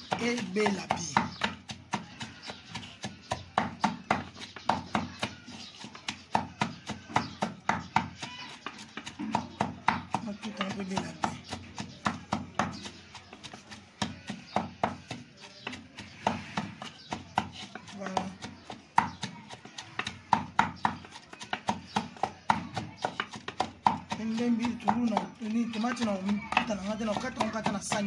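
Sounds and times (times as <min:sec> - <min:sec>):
wooden pestle pounding in mortar: 0:00.0 - 0:28.0.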